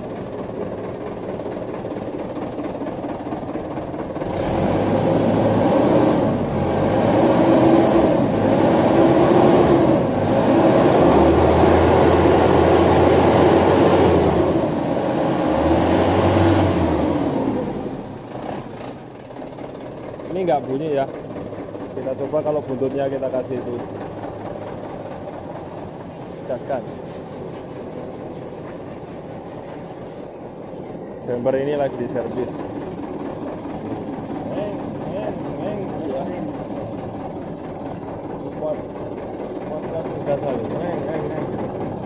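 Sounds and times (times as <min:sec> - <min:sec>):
truck diesel engine revving: 0:00.0 - 0:42.0.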